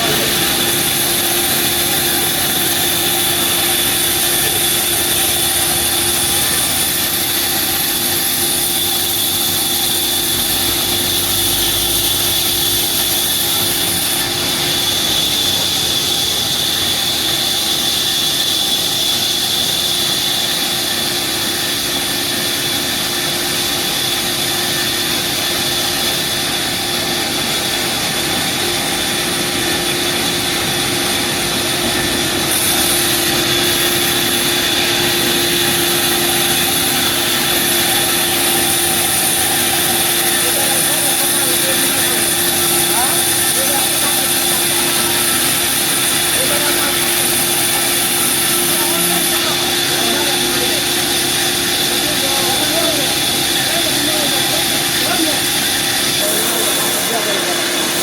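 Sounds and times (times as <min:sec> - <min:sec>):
sawmill machinery whine: 0:00.0 - 0:58.0.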